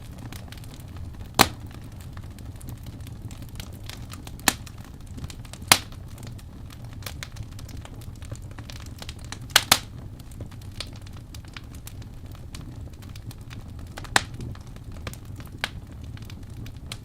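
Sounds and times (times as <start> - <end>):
fire crackling with snaps: 0.0 - 17.0
loud fire pops: 0.0 - 17.0
low rumble of flames: 0.0 - 17.0.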